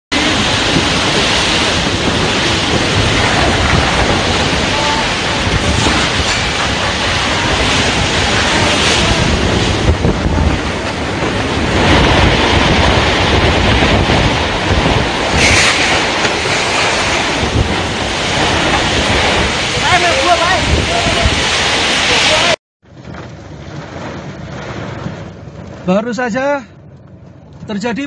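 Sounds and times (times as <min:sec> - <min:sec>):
storm wind on microphone: 0:00.1 - 0:28.0.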